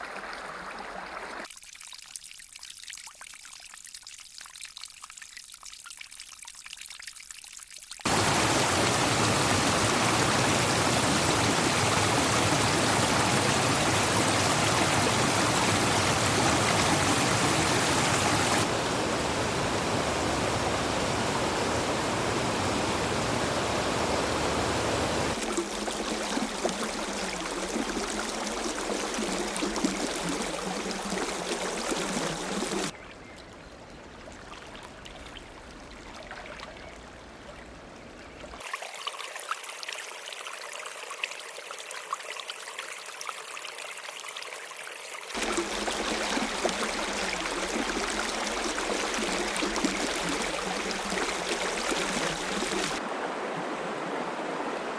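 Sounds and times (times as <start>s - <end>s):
water trickling: 0.0s - 18.7s, 25.3s - 53.7s
stream water flowing: 0.0s - 54.9s.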